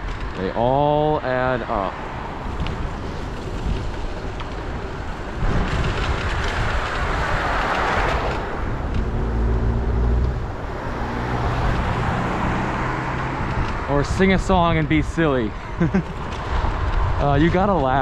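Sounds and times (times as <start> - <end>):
car passing on wet street: 0.0 - 18.0.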